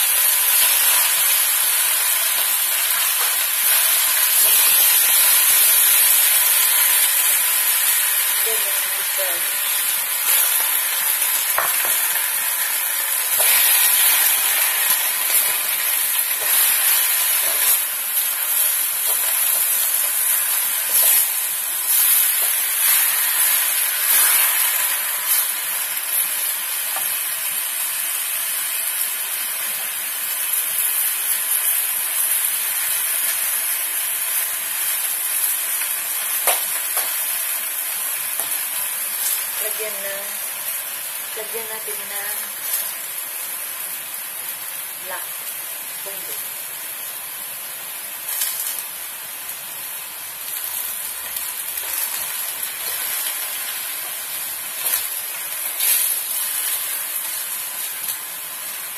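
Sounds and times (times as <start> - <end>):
vegetables sizzling in a wok: 0.0 - 58.9.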